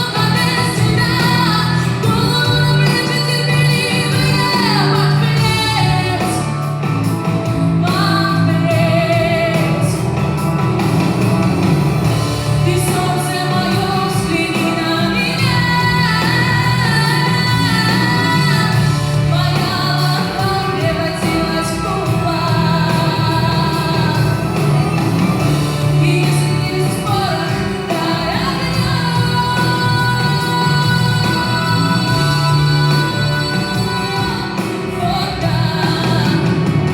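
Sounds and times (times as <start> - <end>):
instrumental accompaniment: 0.0 - 36.9
woman singing with vibrato: 0.0 - 36.9.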